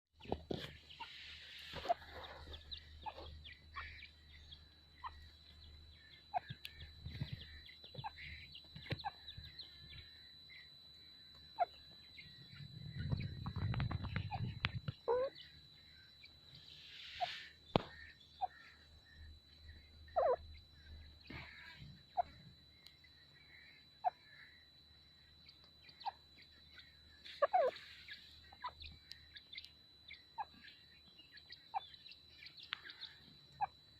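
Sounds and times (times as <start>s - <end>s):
faint high whine: 0.2s - 33.9s
francolin calling: 0.2s - 33.9s.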